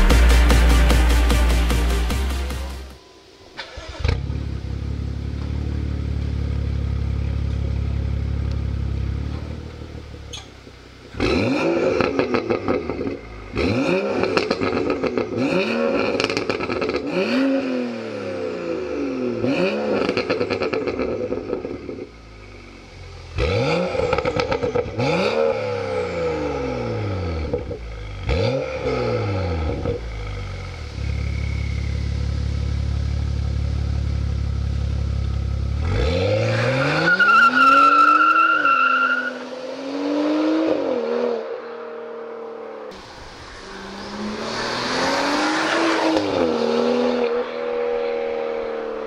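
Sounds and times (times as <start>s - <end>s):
exhaust crackles: 0.0s - 37.9s, 42.9s - 49.0s
car engine revving: 0.0s - 49.0s.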